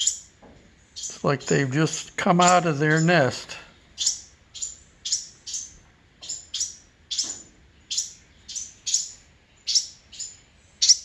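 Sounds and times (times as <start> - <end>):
young songbird chirping: 0.0 - 11.0.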